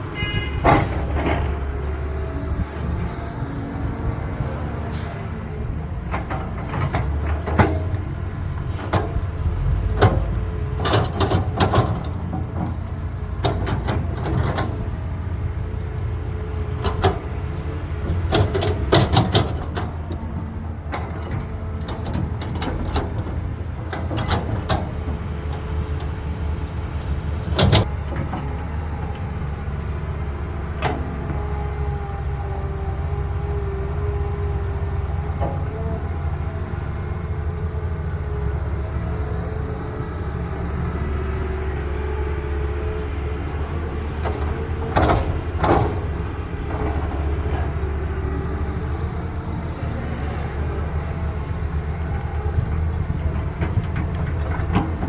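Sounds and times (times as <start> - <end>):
excavator diesel engine rumbling: 0.0 - 55.0.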